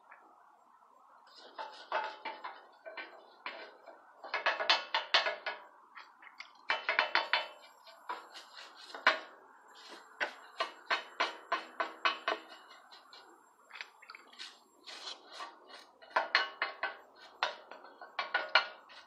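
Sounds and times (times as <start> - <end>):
tool scraping on cast iron: 1.3 - 19.0.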